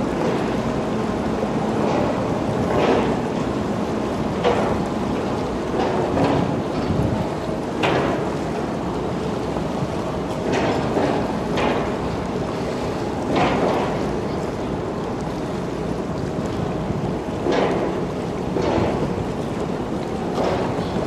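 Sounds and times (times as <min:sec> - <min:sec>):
ship rumbling past: 0:00.0 - 0:21.0
water surging against wall: 0:00.0 - 0:21.0.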